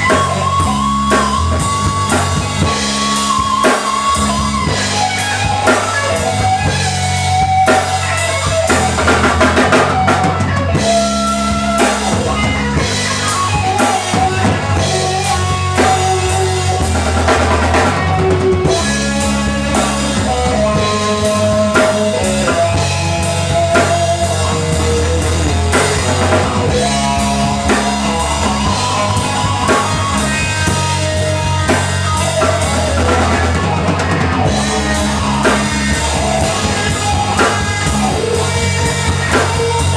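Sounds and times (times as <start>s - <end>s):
bass guitar: 0.0s - 39.9s
drum kit beat: 0.0s - 39.9s
guitar lines: 0.0s - 39.9s.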